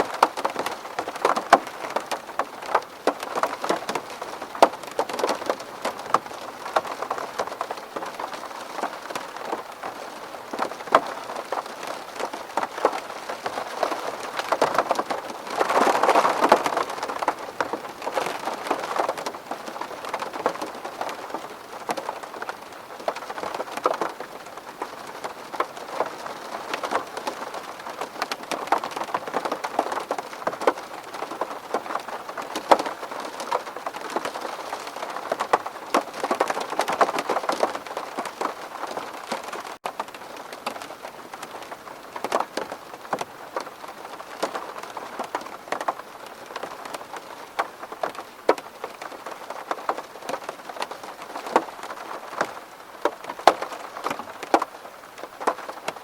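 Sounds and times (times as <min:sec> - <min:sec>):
raindrops hitting window glass: 0:00.0 - 0:56.0
steady hiss of rain: 0:00.0 - 0:56.0.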